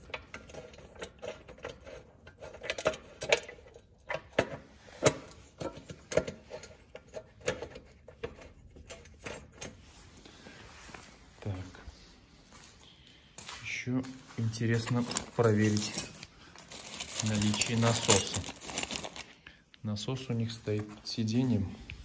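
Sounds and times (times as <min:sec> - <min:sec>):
hands handling parts and wiring: 0:00.0 - 0:19.5, 0:20.2 - 0:22.0.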